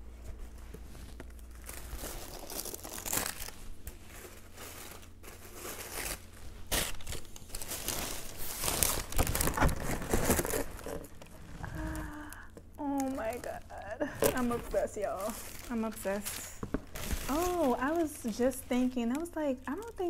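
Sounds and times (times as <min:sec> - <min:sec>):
tissue paper rustling: 0:00.0 - 0:12.2, 0:14.2 - 0:20.0.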